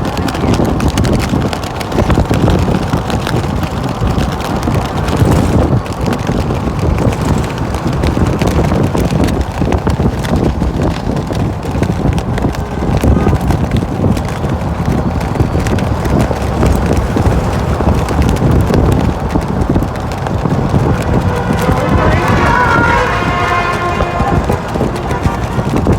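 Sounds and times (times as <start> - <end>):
vehicles passing: 0.0 - 25.9
wind buffeting microphone: 0.0 - 25.9.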